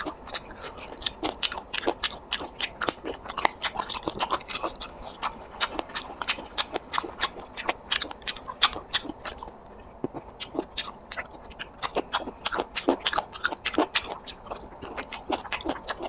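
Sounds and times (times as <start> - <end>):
person chewing and crunching food: 0.0 - 16.0.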